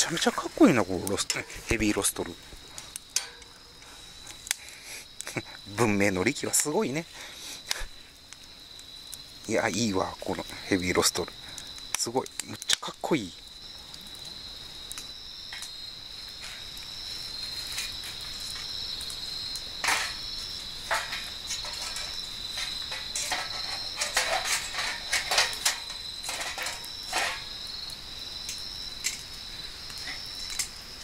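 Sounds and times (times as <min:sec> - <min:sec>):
crickets chirping: 0:00.0 - 0:31.0
wood fire crackling: 0:00.0 - 0:31.0.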